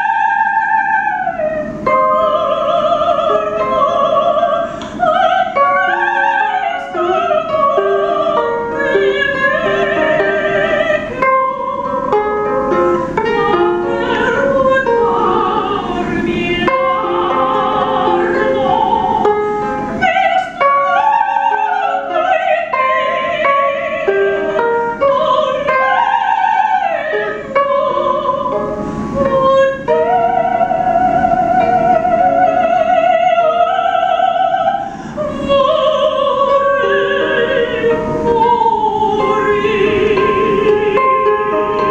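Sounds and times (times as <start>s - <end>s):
woman singing operatically: 0.0s - 41.9s
ukulele strumming: 1.4s - 41.9s.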